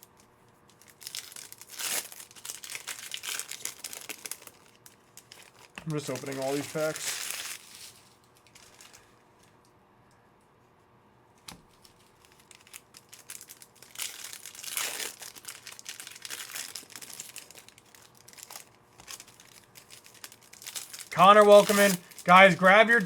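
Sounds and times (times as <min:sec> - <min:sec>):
wrappers tearing and crinkling: 0:00.7 - 0:09.1, 0:11.7 - 0:23.0.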